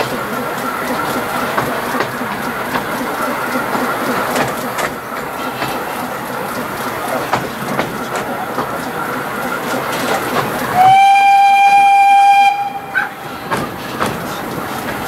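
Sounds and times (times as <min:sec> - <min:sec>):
sharp rail clicks: 0:00.0 - 0:12.3, 0:12.9 - 0:15.0
train rolling along track: 0:00.0 - 0:15.0.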